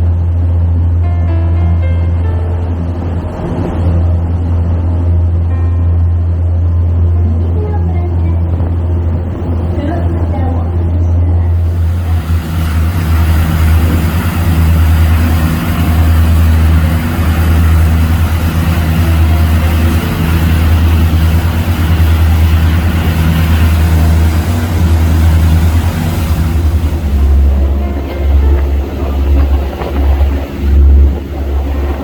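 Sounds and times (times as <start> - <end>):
boat engine humming: 0.0 - 32.0
wind and water rushing: 0.0 - 32.0.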